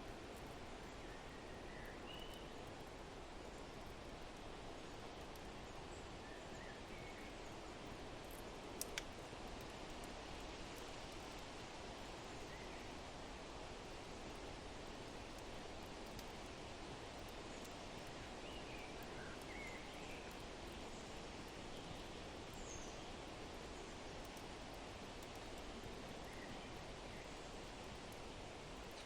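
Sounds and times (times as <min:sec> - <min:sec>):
fire crackles: 0:00.0 - 0:29.0.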